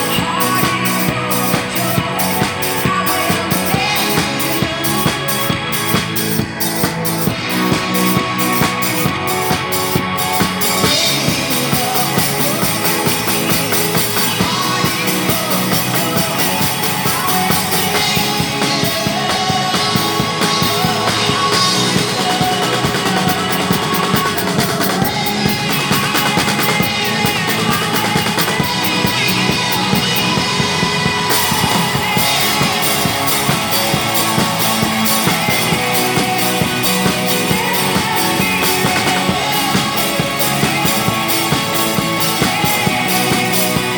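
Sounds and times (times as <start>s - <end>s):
drum kit driving beat: 0.0s - 43.9s
rock music with singing: 0.0s - 43.9s.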